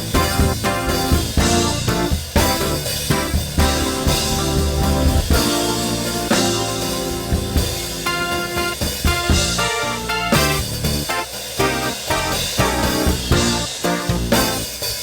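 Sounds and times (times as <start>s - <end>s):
band playing worship music: 0.0s - 15.0s.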